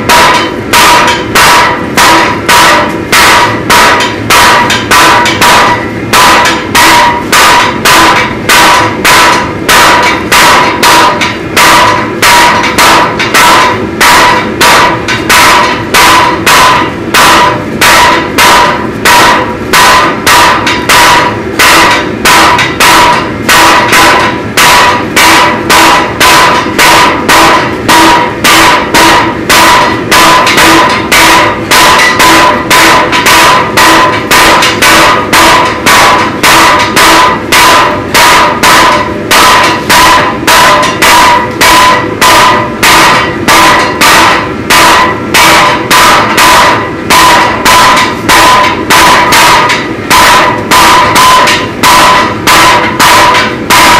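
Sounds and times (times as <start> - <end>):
metallic ring of anvil: 0.0 - 53.7
hammers striking on anvil: 0.0 - 53.9.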